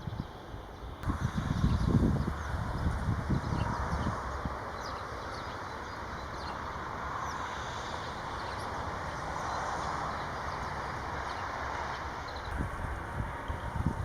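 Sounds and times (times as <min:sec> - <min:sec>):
small birds chirping: 0:00.0 - 0:14.0
steady rushing hum: 0:00.0 - 0:14.0.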